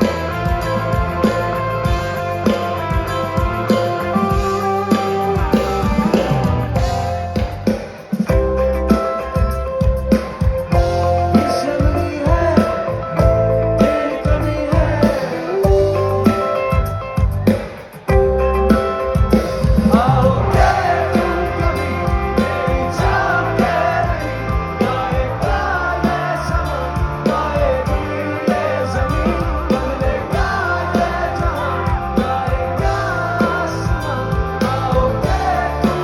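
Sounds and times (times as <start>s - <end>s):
bass: 0.0s - 36.0s
bending lead guitar melody: 0.0s - 36.0s
drums: 0.0s - 36.0s
guitars: 0.0s - 36.0s.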